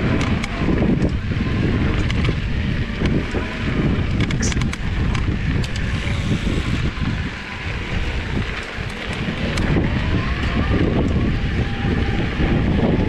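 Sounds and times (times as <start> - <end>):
bike tyres rumbling on dirt: 0.0 - 13.0
wind buffeting microphone: 0.0 - 13.0.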